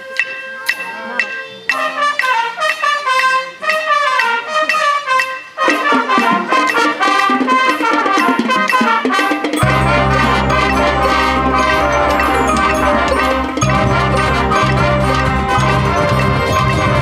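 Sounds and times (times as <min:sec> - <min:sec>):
marching band playing: 0:00.0 - 0:17.0
trumpets: 0:00.0 - 0:17.0
lower brass: 0:01.0 - 0:17.0.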